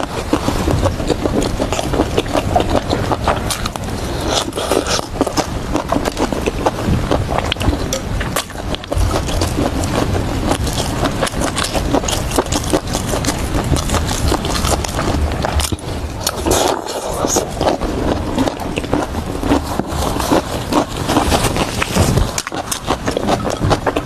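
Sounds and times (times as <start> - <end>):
chewing crunchy food: 0.0 - 24.0
low rumble: 0.0 - 24.0.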